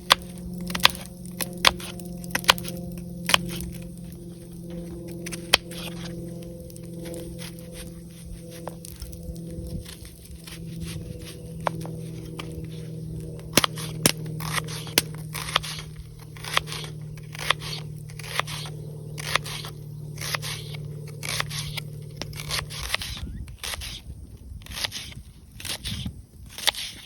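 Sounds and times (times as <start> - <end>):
rhythmic scraping strokes: 0.0 - 24.0
sharp cracks and crackles: 0.0 - 24.0
low steady hum: 0.0 - 27.0.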